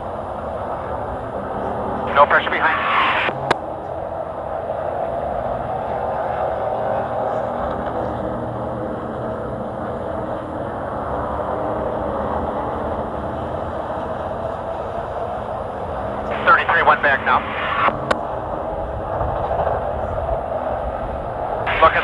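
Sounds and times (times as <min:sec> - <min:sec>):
race truck engine running: 0:00.0 - 0:22.0.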